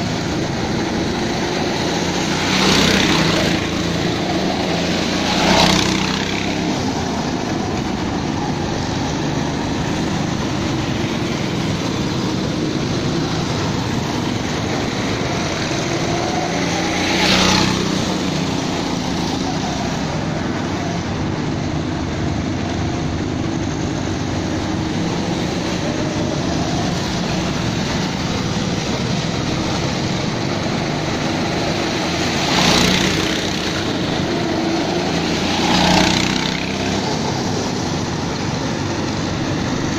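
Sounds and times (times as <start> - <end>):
go-kart engines droning: 0.0 - 39.9
kart passing by: 0.0 - 39.9.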